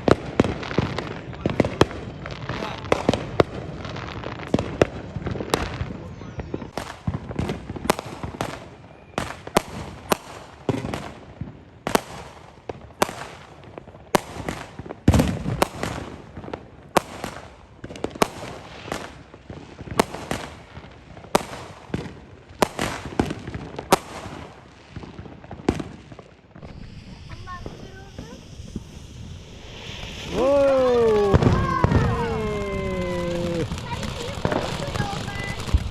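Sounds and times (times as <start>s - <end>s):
fireworks bangs and pops: 0.0s - 35.9s.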